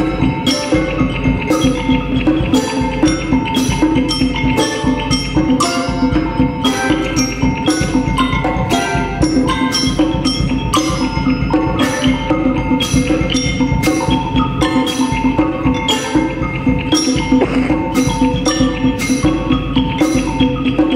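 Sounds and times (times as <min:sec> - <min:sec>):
percussion ensemble playing: 0:00.0 - 0:20.9
ringing pitched tones: 0:00.0 - 0:20.9.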